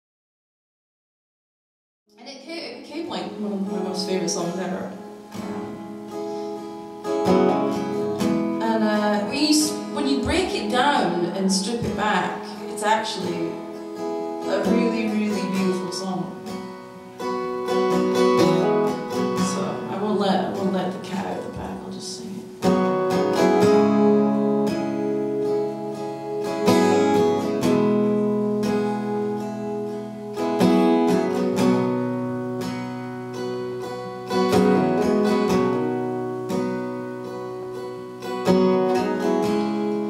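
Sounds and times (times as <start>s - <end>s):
acoustic guitar strumming chords: 2.2s - 40.0s.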